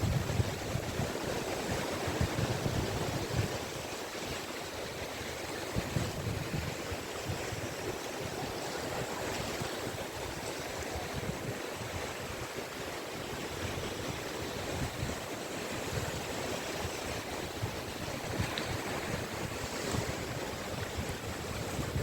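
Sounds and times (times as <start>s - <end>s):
waves washing onto beach: 0.0s - 22.0s.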